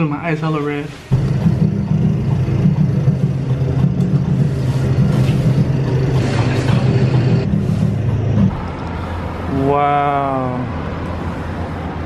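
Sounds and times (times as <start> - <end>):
elevator low rumble with hum: 1.1 - 12.0.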